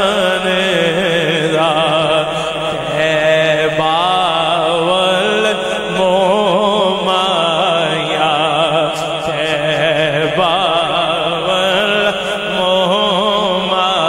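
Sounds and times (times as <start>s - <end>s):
man singing unaccompanied: 0.0s - 14.0s
steady low drone: 0.0s - 14.0s.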